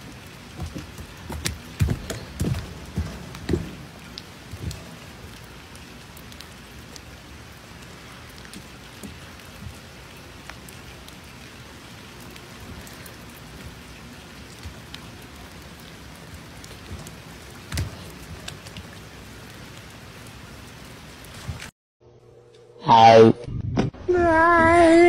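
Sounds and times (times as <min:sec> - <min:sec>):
rain on a wooden deck: 0:00.0 - 0:21.7.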